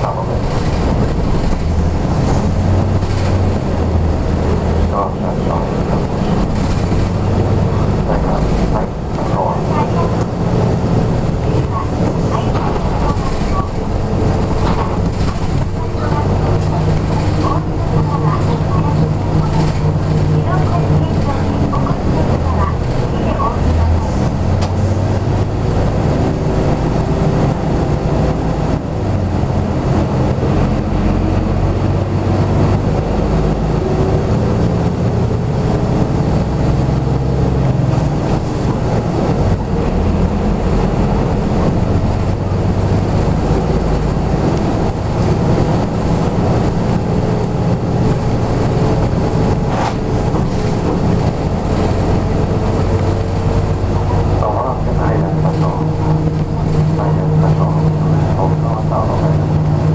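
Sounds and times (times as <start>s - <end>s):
bus diesel engine running: 0.0s - 59.9s
road noise: 0.0s - 59.9s.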